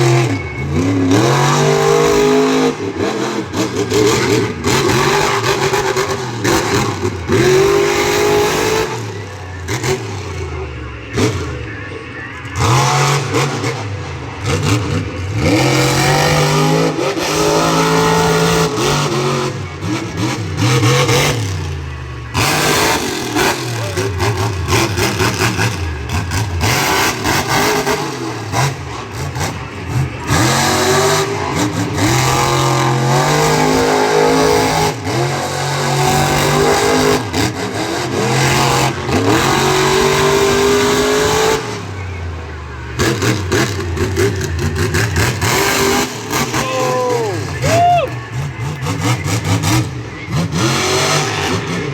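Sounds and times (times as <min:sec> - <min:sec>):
monster truck engine revving: 0:00.0 - 0:51.9.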